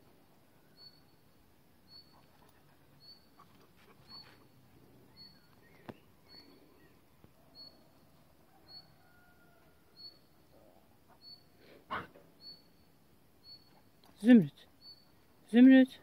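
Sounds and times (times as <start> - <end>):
faint high chirp: 0.5 - 11.6, 12.4 - 14.0, 14.7 - 15.2.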